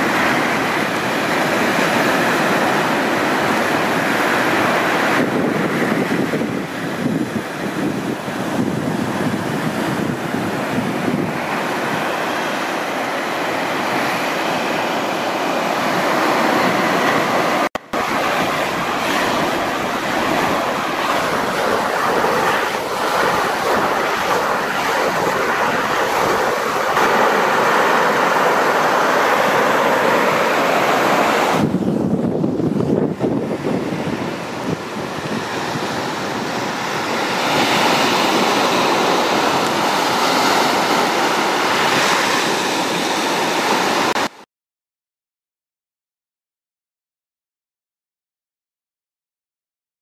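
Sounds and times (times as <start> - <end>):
wind buffeting microphone: 0.0 - 44.2
surf breaking on beach: 0.0 - 44.4.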